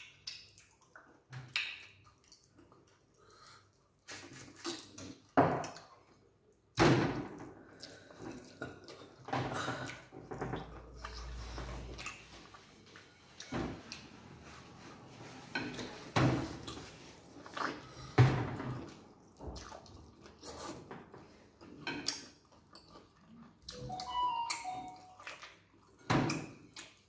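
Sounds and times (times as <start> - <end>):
wet mouth eating sounds: 0.0 - 6.2, 7.6 - 12.6, 16.6 - 27.0
chewing: 0.0 - 6.3, 7.7 - 14.0, 15.5 - 24.0, 24.9 - 27.0.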